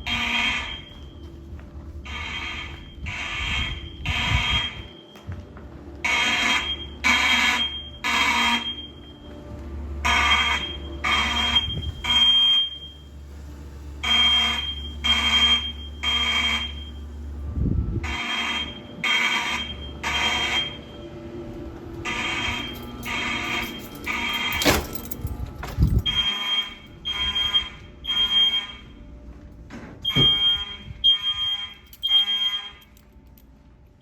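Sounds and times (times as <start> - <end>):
fire alarm horns blaring: 0.0 - 29.4, 30.0 - 33.4.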